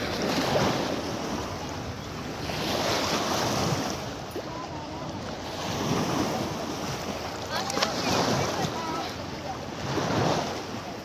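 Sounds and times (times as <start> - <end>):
lake waves washing onto shore: 0.0 - 11.0.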